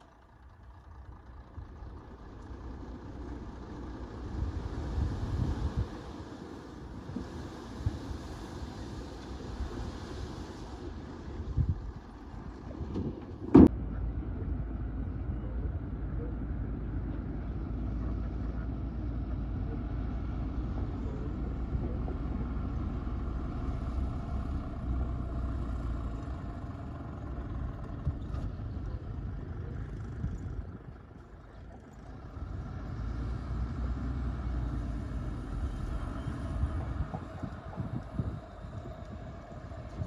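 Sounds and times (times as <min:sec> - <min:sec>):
heavy diesel machinery rumbling: 0:00.0 - 0:40.0.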